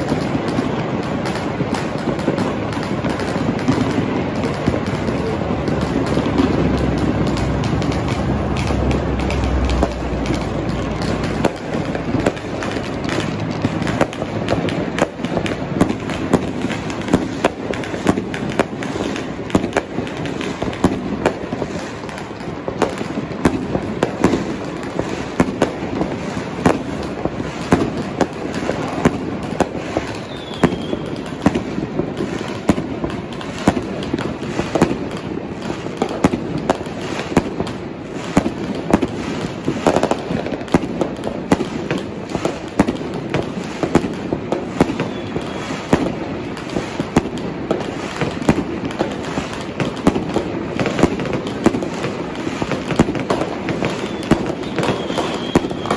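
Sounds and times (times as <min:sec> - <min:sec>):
firecracker bangs: 0:00.0 - 0:55.9
fireworks crackling: 0:00.0 - 0:55.9.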